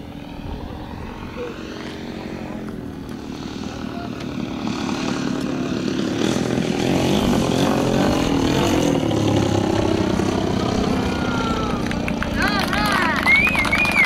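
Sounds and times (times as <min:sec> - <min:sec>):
model plane engine passing: 0:00.0 - 0:14.0.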